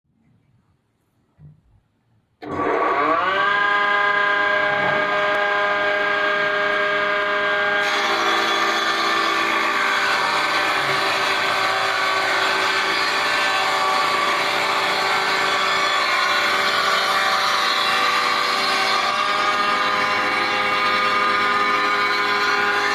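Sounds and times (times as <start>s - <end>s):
table saw motor whine: 2.4s - 22.9s.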